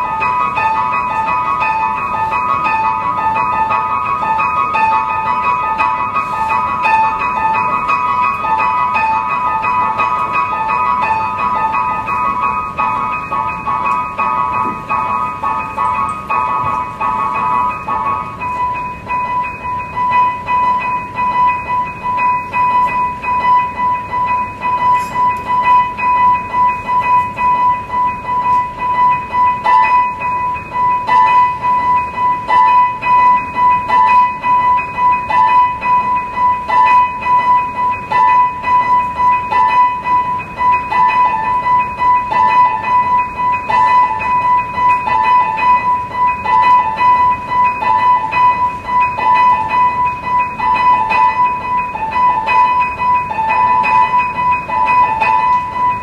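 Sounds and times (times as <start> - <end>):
high held tone: 0.0 - 56.0.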